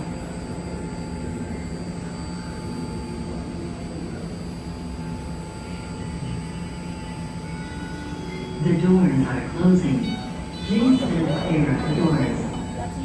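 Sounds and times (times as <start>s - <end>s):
constant whining tones: 0.0s - 13.0s
train mechanical hum and rush: 0.0s - 13.0s.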